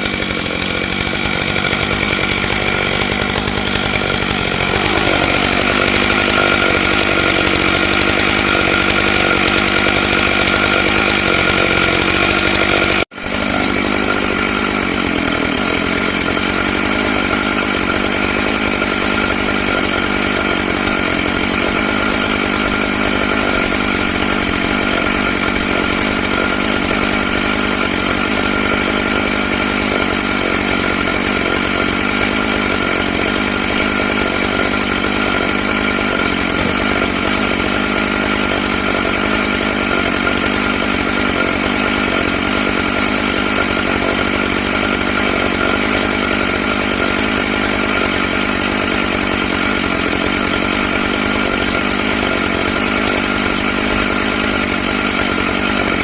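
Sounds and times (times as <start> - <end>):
chainsaw cutting log at high revs: 0.0 - 56.0.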